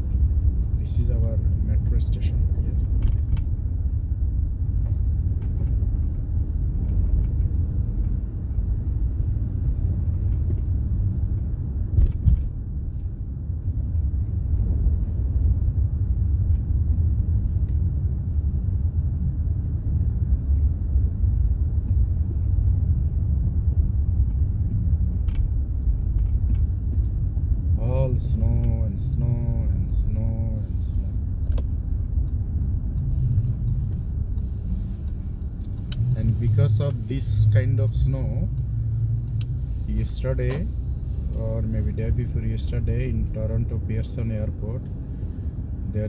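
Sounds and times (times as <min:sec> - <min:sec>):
road and engine rumble in car: 0:00.0 - 0:46.0.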